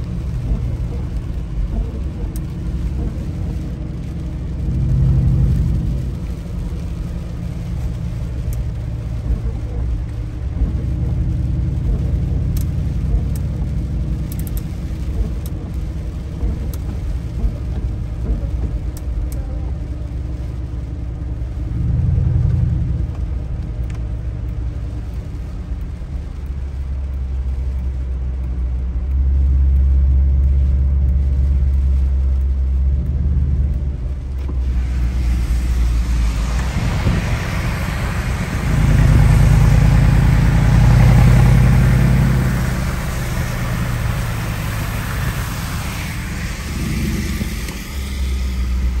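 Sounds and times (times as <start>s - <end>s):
car engine drone: 0.0s - 49.0s
rain and wet tyres hissing: 0.0s - 49.0s
road noise inside car: 0.0s - 49.0s.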